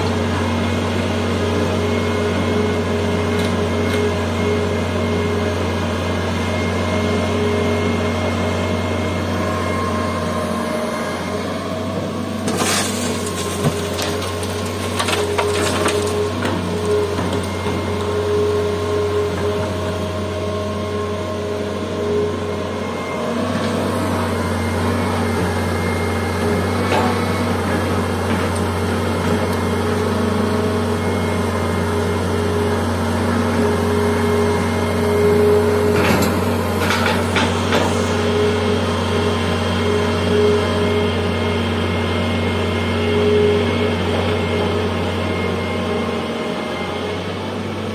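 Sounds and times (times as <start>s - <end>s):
excavator diesel engine droning: 0.0s - 47.9s.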